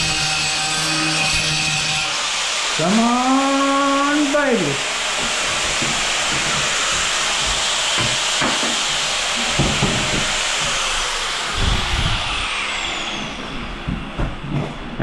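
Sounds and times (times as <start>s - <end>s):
angle grinder cutting tile: 0.0s - 15.0s.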